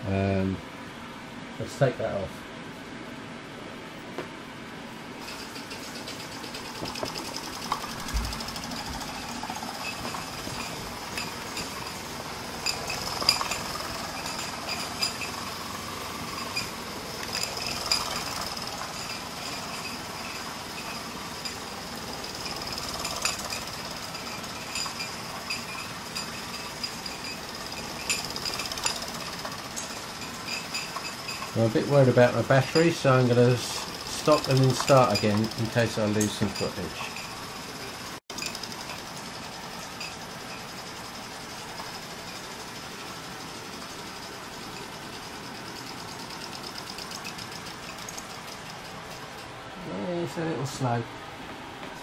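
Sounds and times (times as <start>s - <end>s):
steam engine chuffing: 5.2s - 49.4s.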